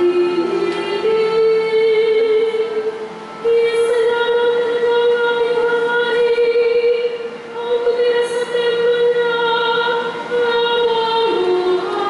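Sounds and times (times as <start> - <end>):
woman singing long notes: 0.0 - 12.0.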